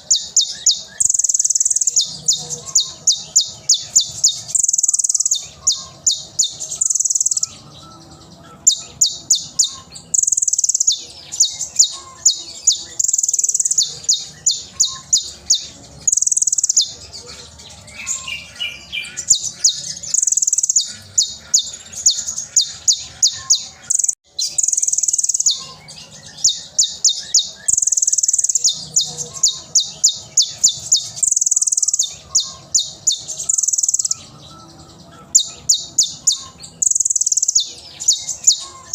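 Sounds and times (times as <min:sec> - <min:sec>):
sunbird singing high notes and trills: 0:00.0 - 0:38.9.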